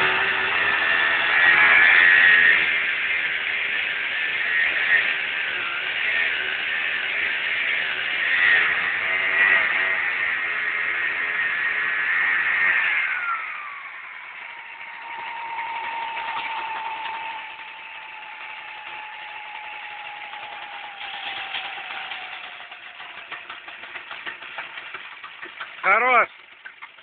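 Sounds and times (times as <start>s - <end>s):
small two-stroke engine running: 0.0s - 27.0s.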